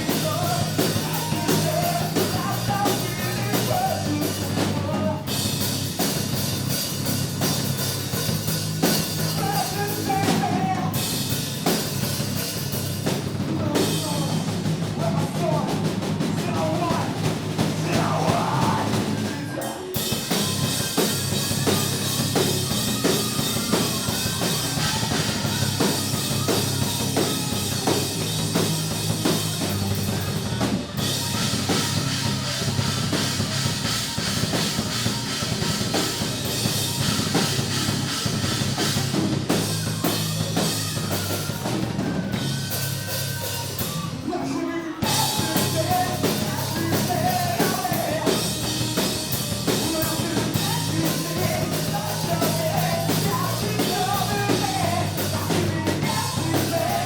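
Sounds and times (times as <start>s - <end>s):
person singing: 0.0s - 5.6s, 9.1s - 11.8s, 13.4s - 57.0s
heavy bass drum: 0.0s - 19.4s, 20.0s - 44.1s, 45.0s - 57.0s
rock band playing live: 0.0s - 57.0s.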